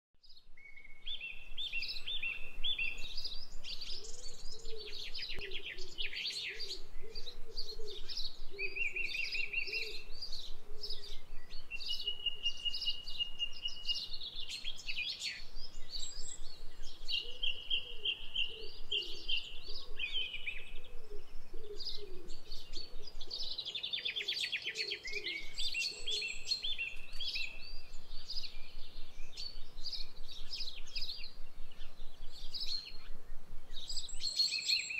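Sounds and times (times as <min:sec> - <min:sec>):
birds singing and calling: 0:00.2 - 0:34.9
low repeated bird call: 0:00.6 - 0:34.9.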